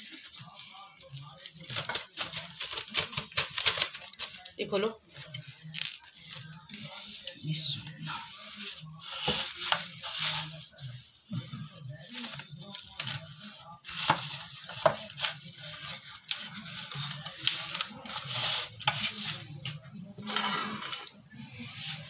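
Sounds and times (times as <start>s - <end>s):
plastic film crinkling: 0.0s - 19.9s.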